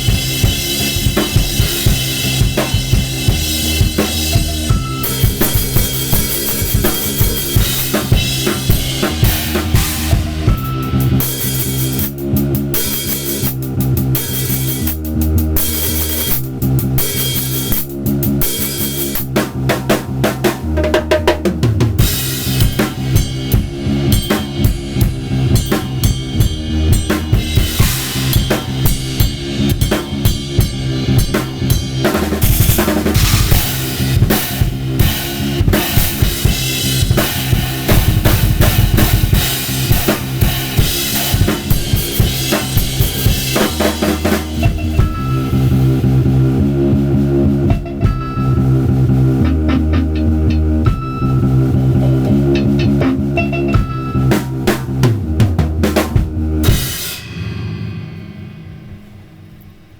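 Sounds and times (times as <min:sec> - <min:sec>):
backing track bass line: 0:00.0 - 0:57.2
drum kit groove: 0:00.0 - 0:59.9.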